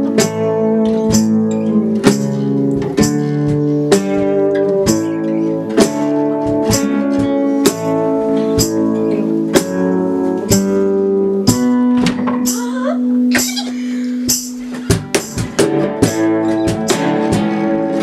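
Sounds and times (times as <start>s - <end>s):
guitars strumming chords: 0.0s - 18.0s.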